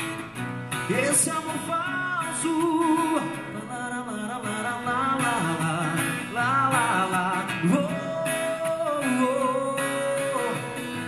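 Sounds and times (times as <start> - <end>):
strummed acoustic guitar: 0.0 - 11.0
man singing into a microphone: 0.9 - 11.0.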